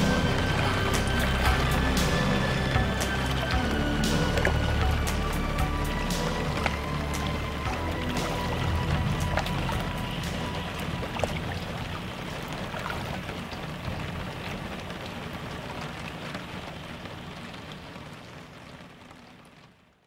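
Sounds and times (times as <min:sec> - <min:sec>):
water drops: 0:00.0 - 0:17.1
rushing water hiss: 0:00.0 - 0:19.0.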